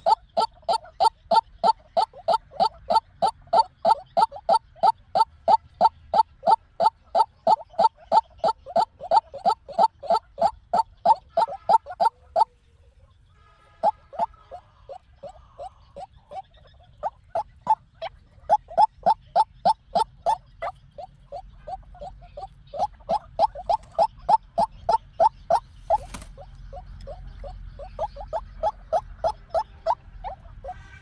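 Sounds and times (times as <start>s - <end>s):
waterhen calling sharp notes: 0.0s - 12.5s, 13.6s - 31.0s.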